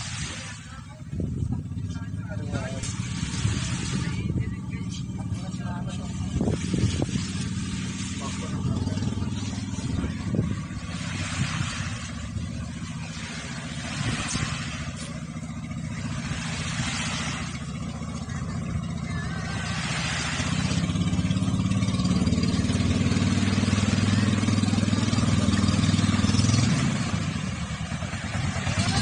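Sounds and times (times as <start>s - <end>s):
small waves washing on sand: 0.0s - 1.2s, 1.9s - 29.0s
boat engine running: 0.0s - 29.0s.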